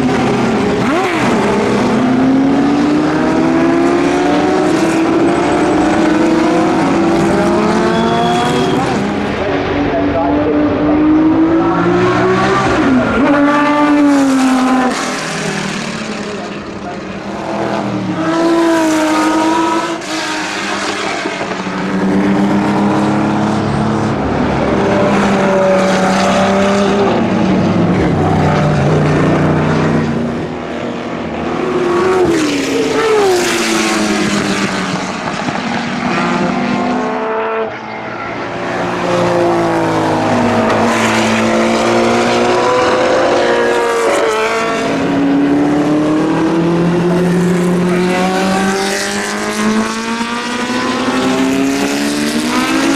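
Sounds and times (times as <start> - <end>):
racing engine accelerating: 0.0 - 52.9.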